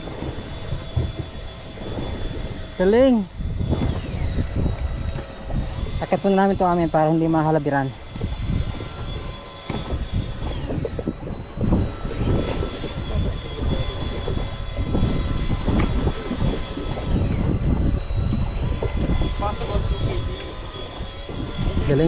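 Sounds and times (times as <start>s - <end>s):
fishing reel gear whine: 0.0s - 22.0s
sea noise: 0.0s - 22.0s
wind rumbling: 0.0s - 22.0s.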